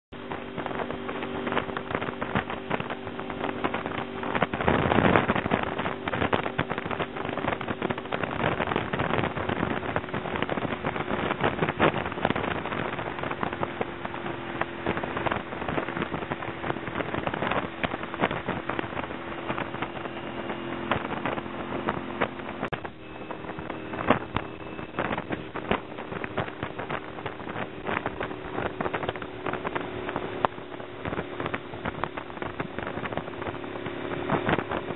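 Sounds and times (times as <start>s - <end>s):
motorcycle engine running: 0.1s - 34.9s
wind buffeting microphone: 0.1s - 34.9s.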